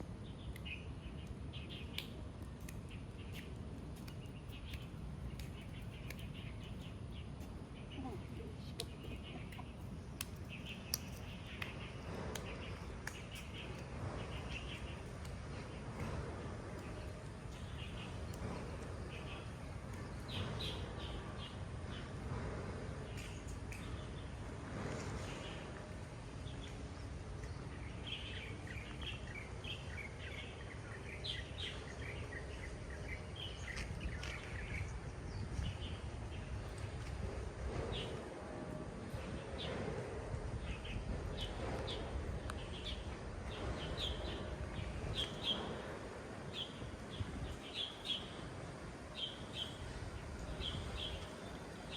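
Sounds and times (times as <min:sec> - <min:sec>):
steady low rumble: 0:00.0 - 0:51.9
small birds chirping: 0:00.1 - 0:22.2, 0:22.9 - 0:38.2, 0:40.6 - 0:51.9.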